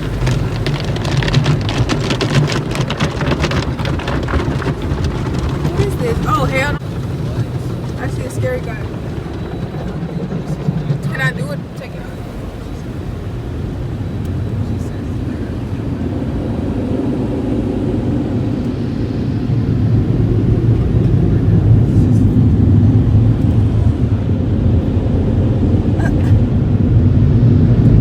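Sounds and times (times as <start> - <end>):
car wash equipment rumbling: 0.0 - 28.0.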